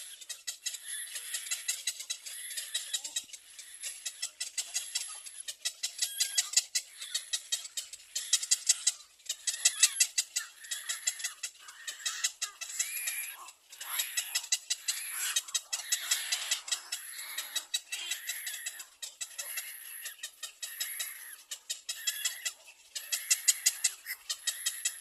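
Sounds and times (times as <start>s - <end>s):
baby birds peeping: 0.0s - 25.0s.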